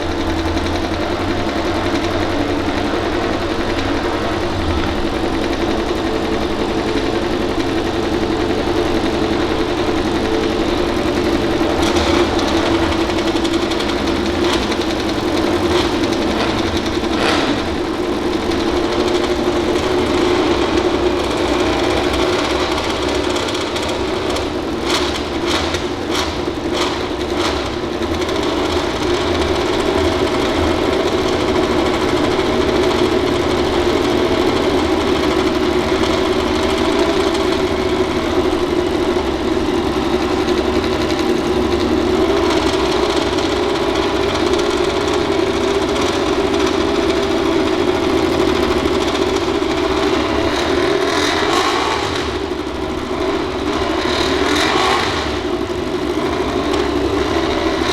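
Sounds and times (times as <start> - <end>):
racing motorcycle engine: 0.0 - 57.9.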